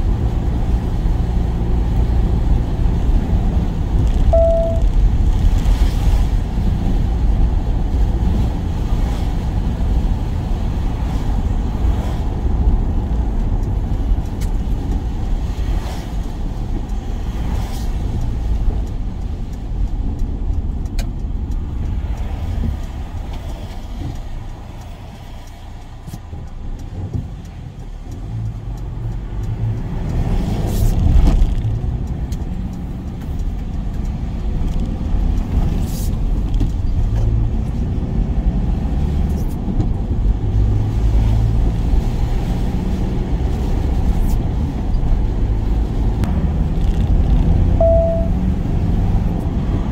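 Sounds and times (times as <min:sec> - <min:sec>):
road noise: 0:00.0 - 0:49.9
van engine: 0:00.0 - 0:49.9.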